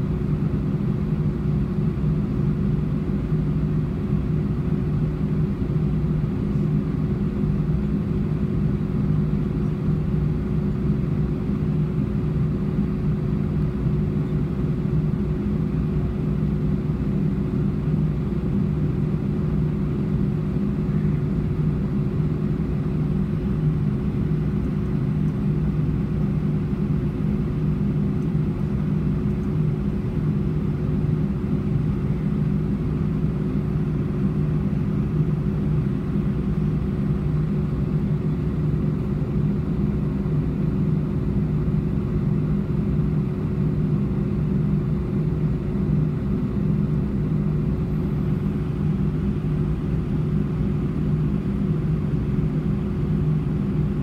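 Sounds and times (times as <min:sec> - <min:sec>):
jet engines idling in cabin: 0:00.0 - 0:54.0.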